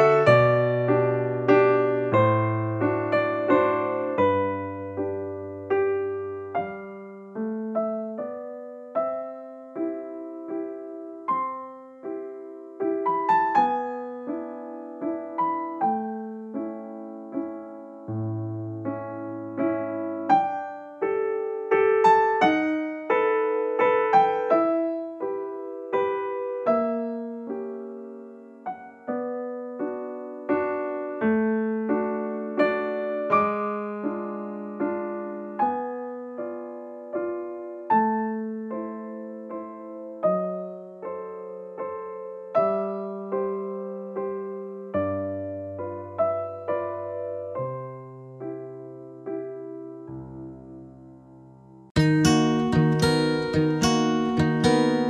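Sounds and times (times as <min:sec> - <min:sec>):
gentle piano music: 0:00.0 - 0:55.0.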